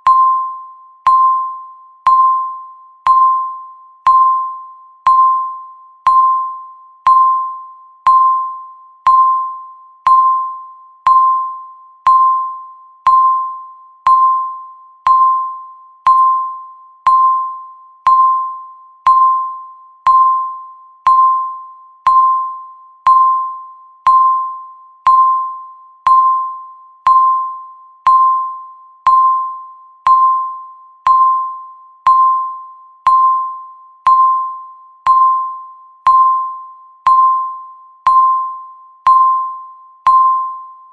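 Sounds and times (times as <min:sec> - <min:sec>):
countdown timer beeping: 0:00.0 - 0:40.9.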